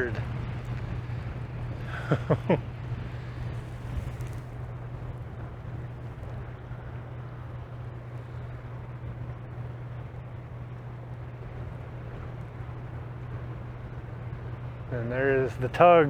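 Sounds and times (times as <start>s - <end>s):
boat diesel engine droning: 0.0s - 16.0s
wind rumbling on microphone: 0.0s - 16.0s.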